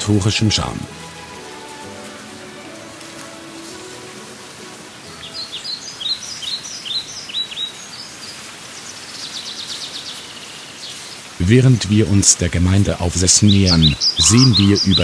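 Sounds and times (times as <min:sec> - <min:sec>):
outdoor background hiss: 0:00.0 - 0:15.0
songbird singing: 0:00.0 - 0:15.0.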